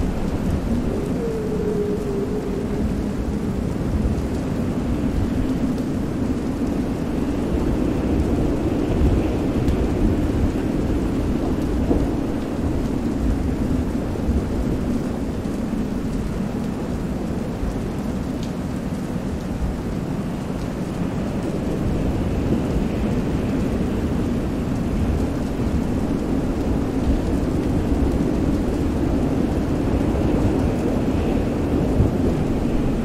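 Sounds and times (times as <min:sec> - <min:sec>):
low rumble of thunder: 0:00.0 - 0:17.6, 0:20.9 - 0:33.0
steady rain: 0:00.0 - 0:33.0
waves: 0:00.0 - 0:33.0
wind: 0:00.0 - 0:33.0.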